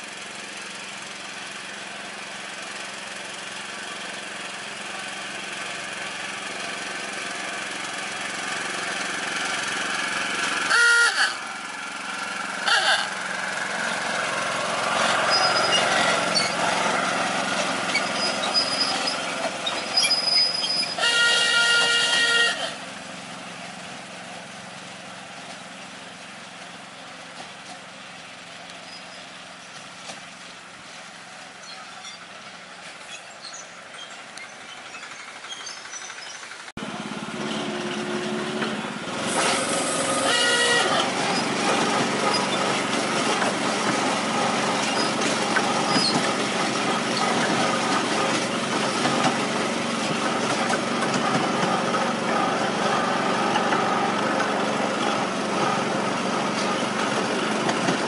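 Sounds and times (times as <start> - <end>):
miniature locomotive engine humming: 0.0 - 58.0
train rolling along track: 0.0 - 58.0.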